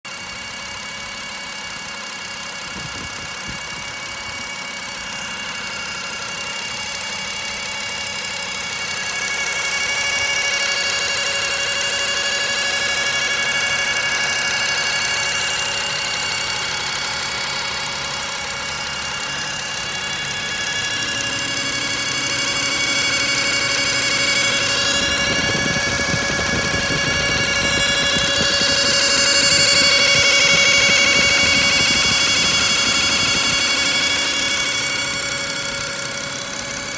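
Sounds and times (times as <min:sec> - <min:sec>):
car engine running: 0:00.1 - 0:36.9
high-pitched engine whine: 0:00.1 - 0:36.9.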